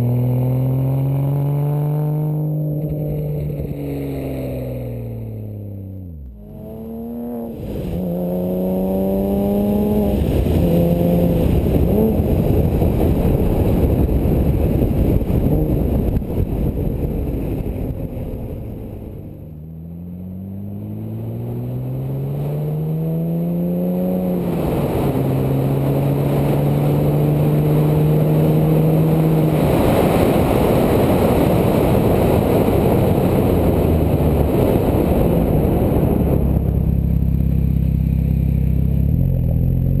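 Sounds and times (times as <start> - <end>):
sports car engine accelerating: 0.0 - 40.0.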